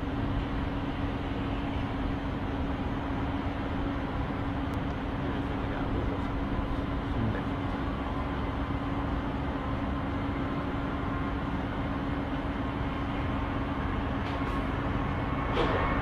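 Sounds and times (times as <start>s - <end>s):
vehicle low hum: 0.0s - 16.0s.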